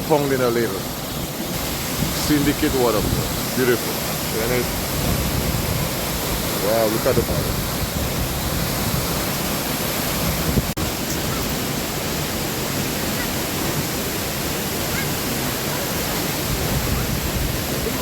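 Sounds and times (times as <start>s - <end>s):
waterfall pouring into pool: 0.0s - 18.0s.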